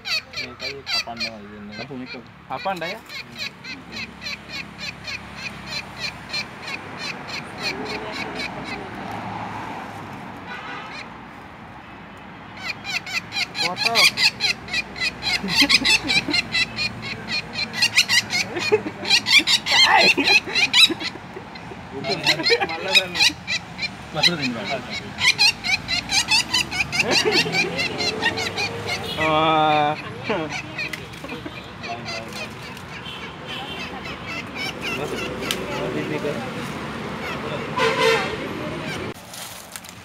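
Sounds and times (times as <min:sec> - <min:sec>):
woodpecker harsh repeated calls: 0:00.0 - 0:09.4, 0:10.4 - 0:39.2.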